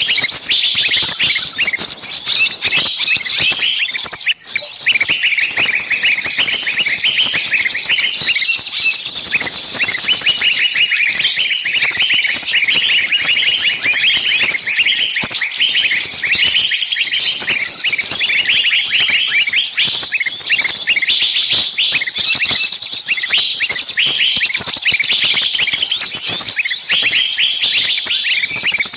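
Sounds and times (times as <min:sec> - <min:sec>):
songbirds chirping and trilling: 0:00.0 - 0:28.9.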